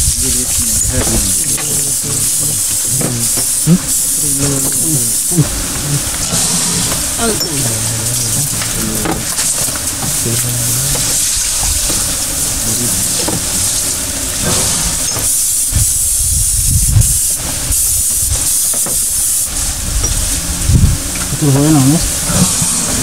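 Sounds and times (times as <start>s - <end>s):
low murmur: 0.0s - 23.0s
steady high hiss: 0.0s - 23.0s.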